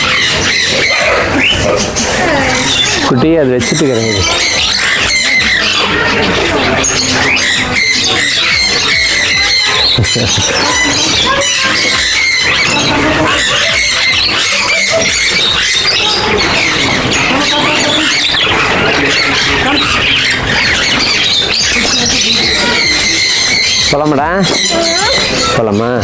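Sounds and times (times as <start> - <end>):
small birds squawking and chirping: 0.0 - 26.0.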